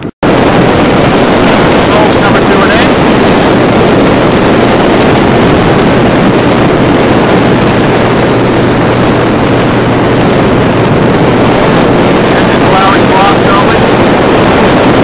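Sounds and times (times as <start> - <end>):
motorboat engine drone: 0.0 - 15.0
wind noise on microphone: 0.0 - 15.0.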